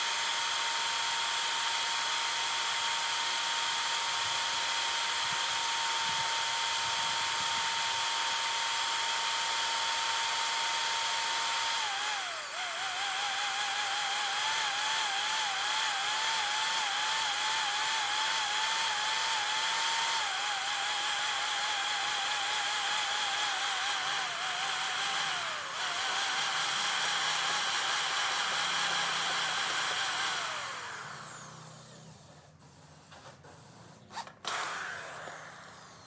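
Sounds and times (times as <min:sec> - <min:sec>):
power tool motor running: 0:00.0 - 0:36.0.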